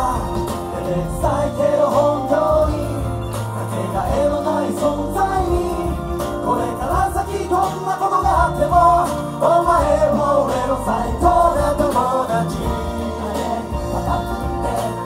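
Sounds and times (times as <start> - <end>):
backing music with bass line: 0.0 - 15.0
male vocal group singing reggae: 0.0 - 15.0.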